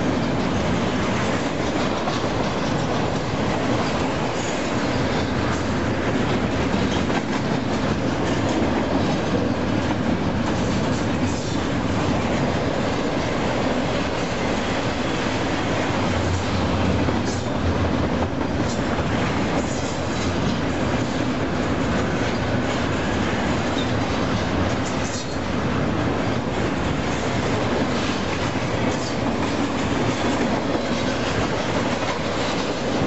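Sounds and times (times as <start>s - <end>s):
rail clacks: 0.0s - 33.0s
train wheels rumbling on rails: 0.0s - 33.0s.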